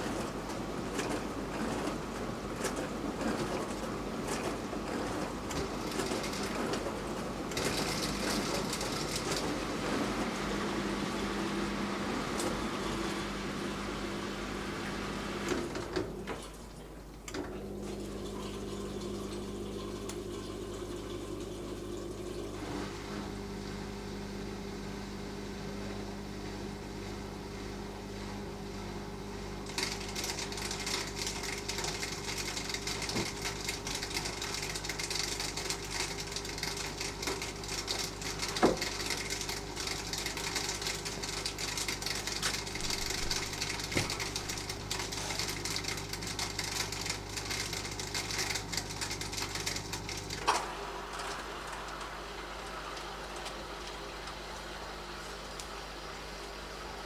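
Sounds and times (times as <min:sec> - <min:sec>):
dishwasher pump hum: 0:00.0 - 0:57.0.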